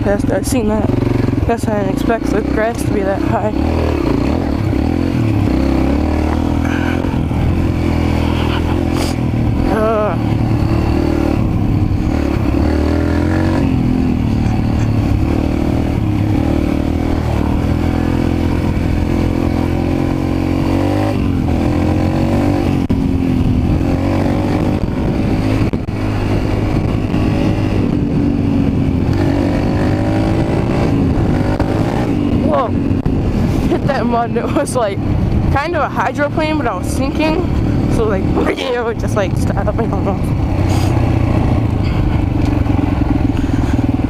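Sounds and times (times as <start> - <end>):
mini bike engine revving: 0.0 - 34.8, 35.4 - 44.0.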